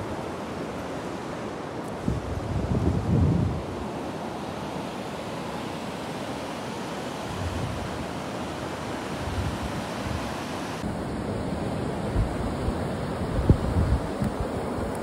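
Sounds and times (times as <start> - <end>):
low gusts: 0.0 - 15.0.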